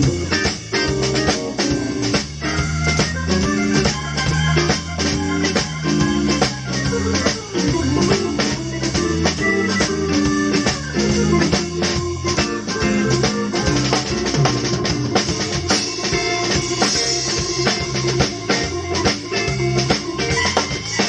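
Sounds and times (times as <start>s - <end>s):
guitar: 0.0s - 21.0s
organ chord stabs: 0.0s - 21.0s
steady drum beat: 0.0s - 21.0s.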